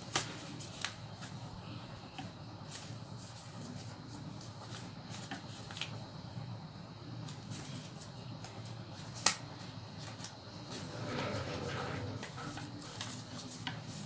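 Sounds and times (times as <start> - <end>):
paper rustling and crackling: 0.0 - 6.0, 7.2 - 14.0.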